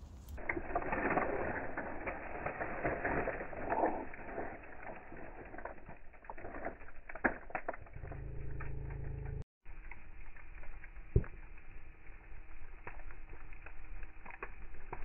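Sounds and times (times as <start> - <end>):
campfire crackling: 0.0 - 15.0
fire popping: 0.0 - 15.0.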